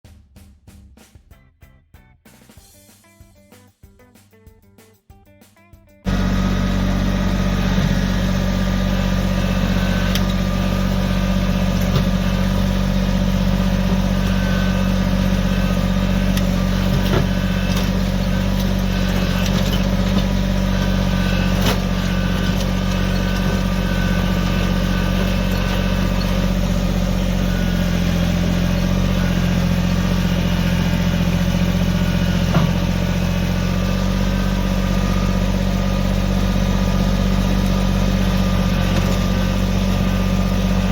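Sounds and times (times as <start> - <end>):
tractor diesel engine running: 6.1 - 40.9.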